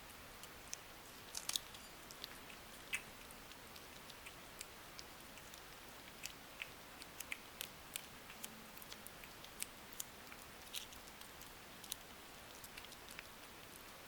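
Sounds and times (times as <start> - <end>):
background hiss: 0.0 - 14.0
cat eating crunches: 0.1 - 14.0.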